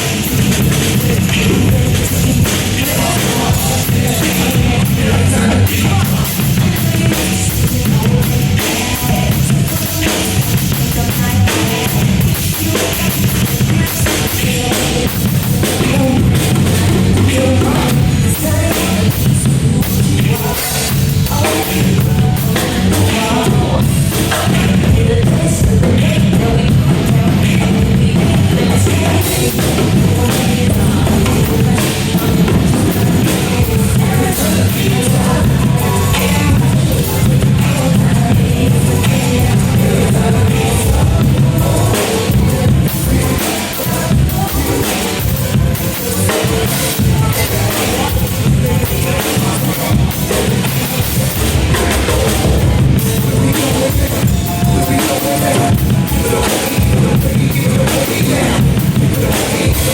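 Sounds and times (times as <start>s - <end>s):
drum kit playing: 0.0s - 59.9s
loud rock music: 0.0s - 59.9s.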